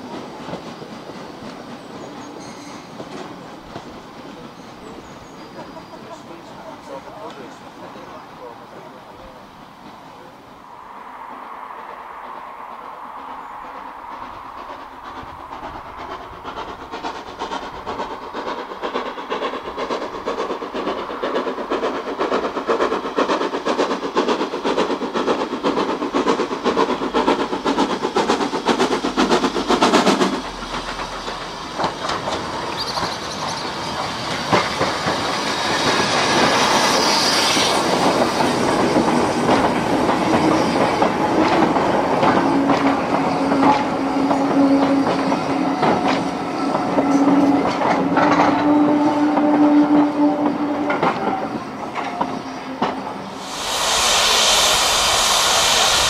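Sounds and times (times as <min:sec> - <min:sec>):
train wheels clattering over rail joints: 0:00.0 - 0:08.0, 0:12.3 - 0:53.4.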